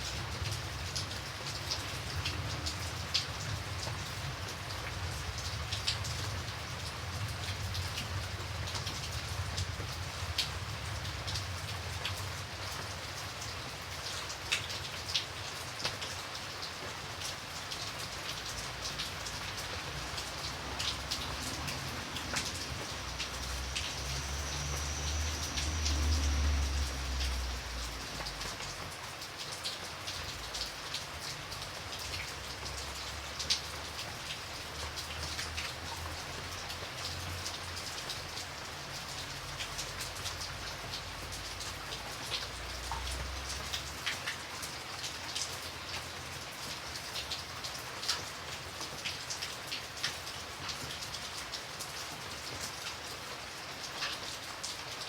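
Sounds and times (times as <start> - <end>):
rain drops hitting a surface: 0.0 - 55.0.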